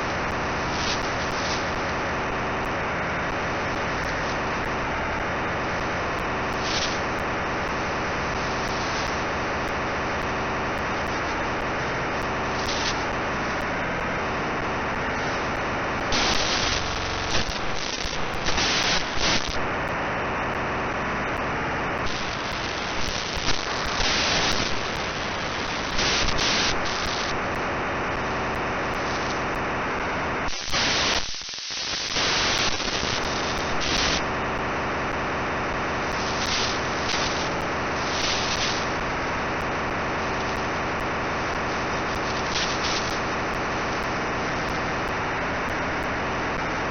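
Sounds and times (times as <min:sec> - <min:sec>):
radio static hiss: 0:00.0 - 0:46.9.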